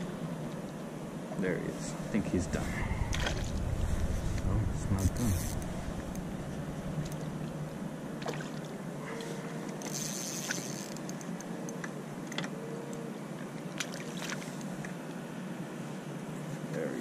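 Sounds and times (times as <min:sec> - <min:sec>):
water and wind noise: 0:00.0 - 0:17.0.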